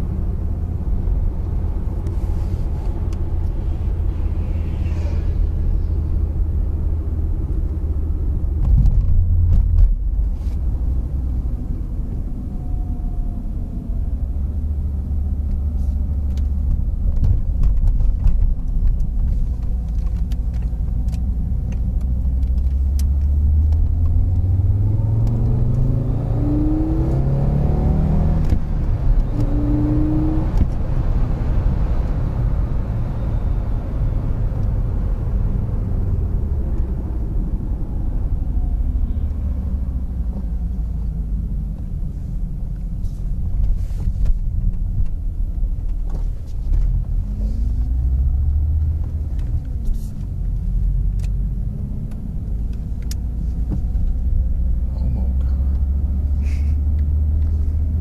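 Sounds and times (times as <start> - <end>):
car engine drone accelerating: 0.0 - 58.0
road noise: 0.0 - 58.0.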